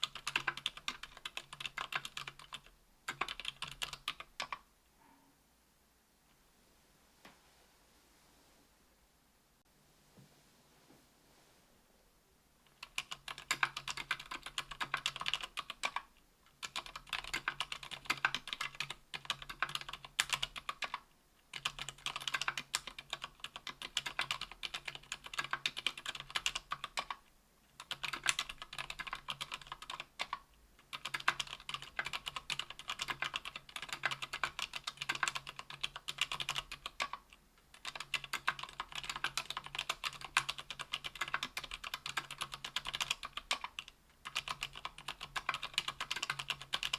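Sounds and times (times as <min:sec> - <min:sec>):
typing on mechanical keyboard: 0:00.0 - 0:04.6, 0:12.7 - 0:27.2, 0:27.8 - 0:46.9.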